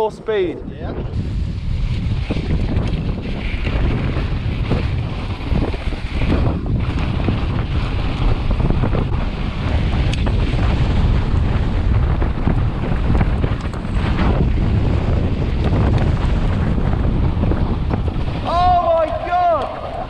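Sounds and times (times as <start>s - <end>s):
wind buffeting microphone: 0.0s - 20.0s
bike tyres on loose dirt: 1.0s - 20.0s
bike knocks and rattles: 1.9s - 19.1s.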